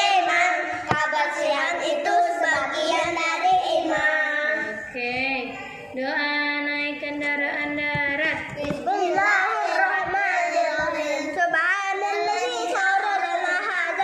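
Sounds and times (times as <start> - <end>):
children chanting recitation: 0.0 - 6.0, 6.9 - 14.0.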